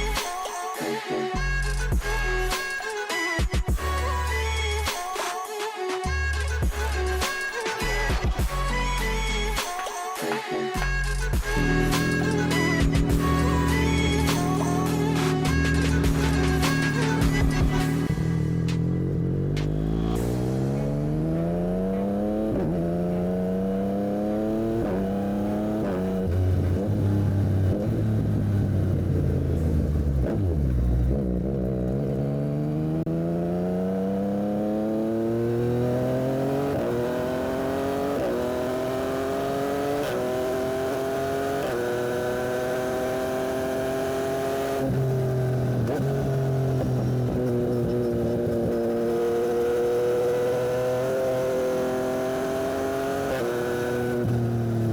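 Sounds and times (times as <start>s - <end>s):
motorcycle engine revving with upshifts: 10.9s - 54.9s.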